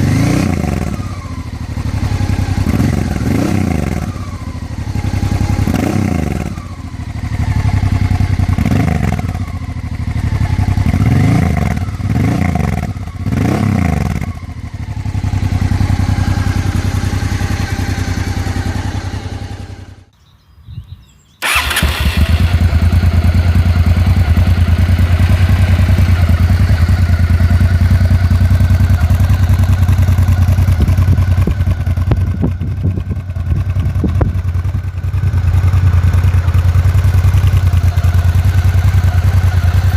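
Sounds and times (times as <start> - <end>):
motorcycle engine revving: 0.0 - 20.1, 21.4 - 39.9.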